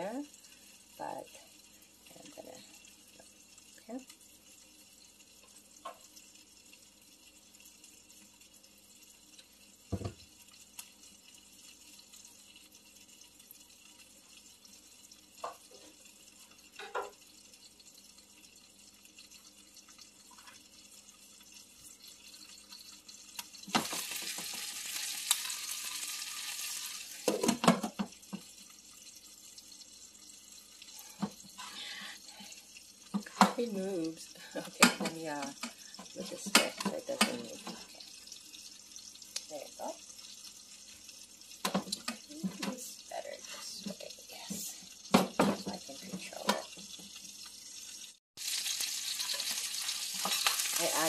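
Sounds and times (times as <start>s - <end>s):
food sizzling in covered pan: 0.0s - 51.0s.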